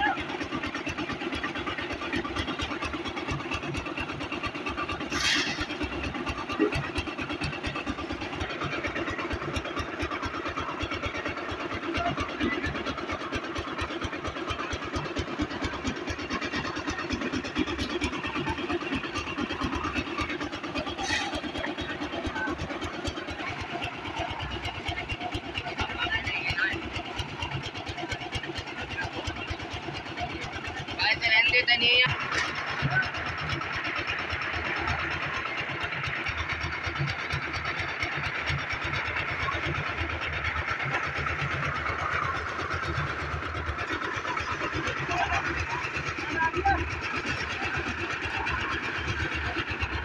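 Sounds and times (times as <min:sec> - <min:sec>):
concrete mixer engine running: 0:00.0 - 0:50.0.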